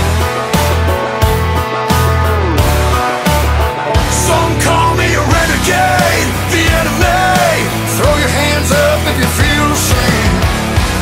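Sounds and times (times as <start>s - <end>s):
rock music with singing: 0.0s - 11.0s.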